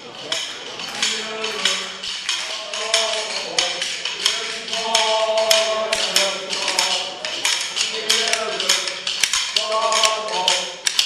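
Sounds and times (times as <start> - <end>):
music: 0.2 - 11.0
hands clapping in time: 0.3 - 11.0.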